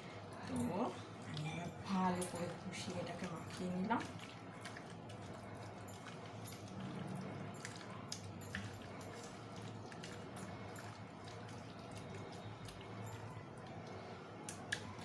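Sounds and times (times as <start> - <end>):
wet squishing of chicken in marinade: 2.6 - 15.0.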